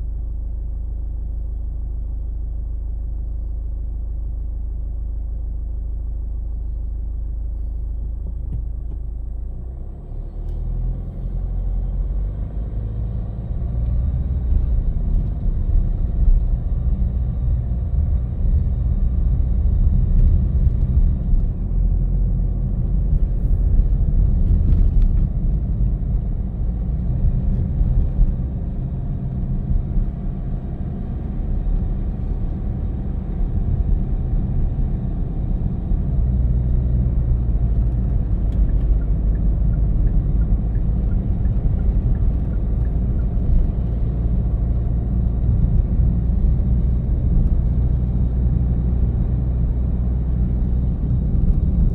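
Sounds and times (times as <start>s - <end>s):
engine and tyres rumbling on road: 0.0s - 51.9s.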